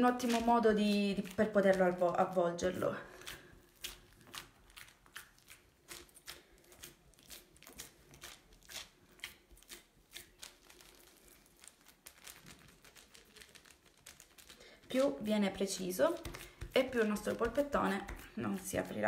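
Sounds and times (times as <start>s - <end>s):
hands patting meat mixture: 0.0s - 12.0s, 14.8s - 19.0s.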